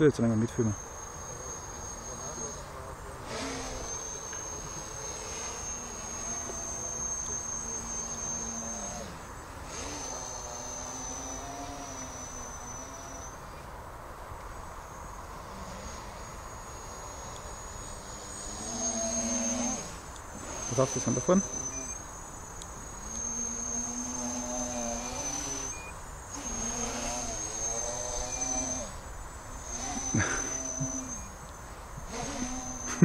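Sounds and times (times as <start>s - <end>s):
high-pitched insect chirr: 0.0s - 13.7s, 14.5s - 33.0s
drone propellers buzzing: 0.0s - 33.0s.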